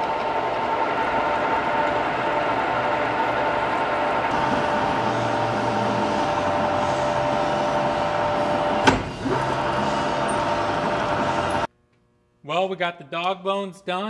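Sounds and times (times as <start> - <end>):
shop machinery whining: 0.0 - 11.7.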